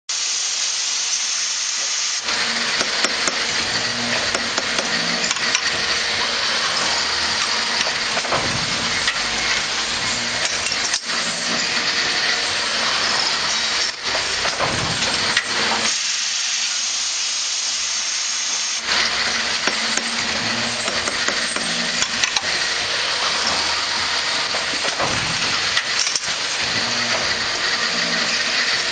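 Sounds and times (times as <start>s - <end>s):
drill machine hissing: 0.1s - 28.9s
deep machine rumble: 2.3s - 15.9s, 18.8s - 28.9s.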